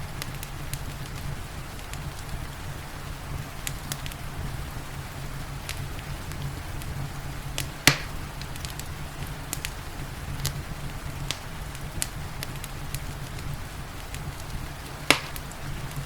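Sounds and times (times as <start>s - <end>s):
rain hissing: 0.0s - 16.0s
wood fire crackling and popping: 0.0s - 16.0s.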